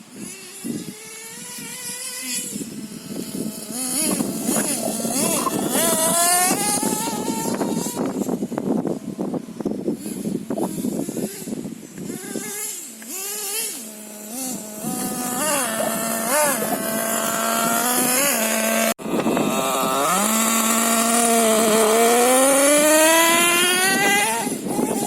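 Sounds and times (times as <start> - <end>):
small two-stroke engine running: 0.0 - 25.0.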